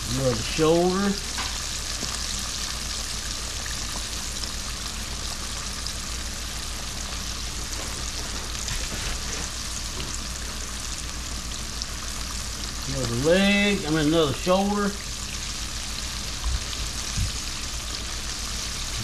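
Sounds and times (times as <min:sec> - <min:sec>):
food sizzling in hot oil: 0:00.0 - 0:19.0
low steady hum: 0:00.0 - 0:19.0.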